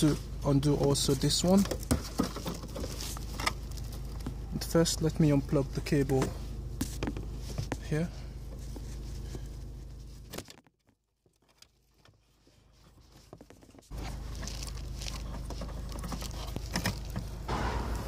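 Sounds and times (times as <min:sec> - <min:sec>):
steady low hum: 0:00.0 - 0:10.4, 0:12.2 - 0:18.0.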